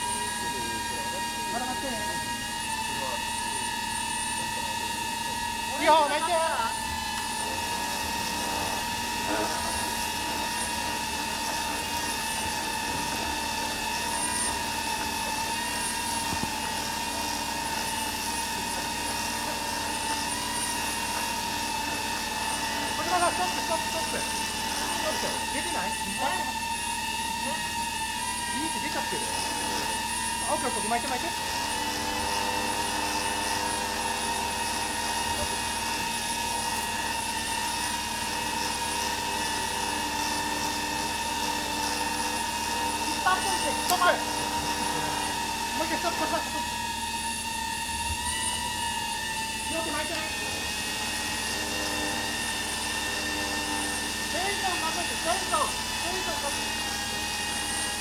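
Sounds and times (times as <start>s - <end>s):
electric winch whining: 0.0s - 58.0s.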